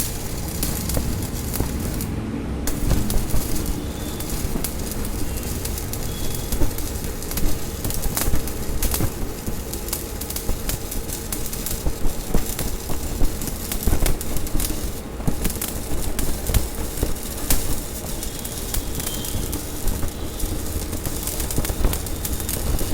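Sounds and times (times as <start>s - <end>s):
welding arc crackling and popping: 0.0s - 22.9s.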